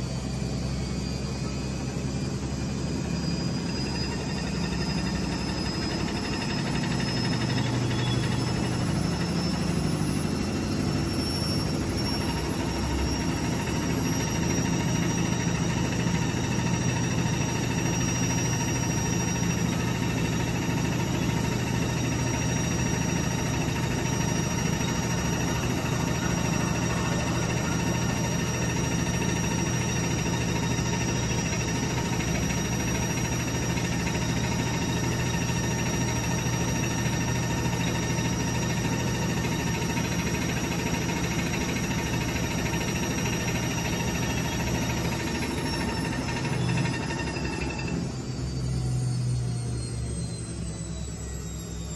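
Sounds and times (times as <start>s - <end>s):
washing machine humming: 0.0s - 51.9s.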